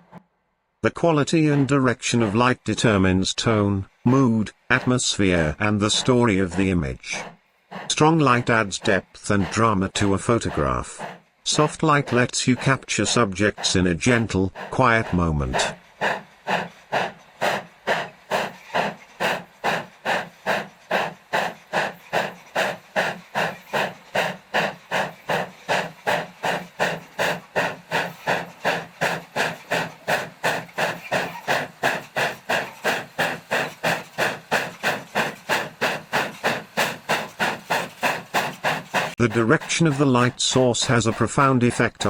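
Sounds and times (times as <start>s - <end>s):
steam locomotive exhaust chuffing: 0.0s - 0.2s, 0.8s - 42.0s.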